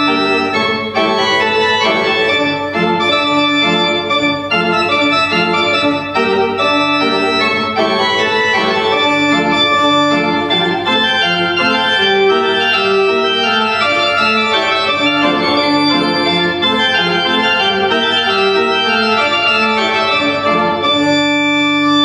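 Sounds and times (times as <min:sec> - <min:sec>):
organ playing: 0:00.0 - 0:22.0.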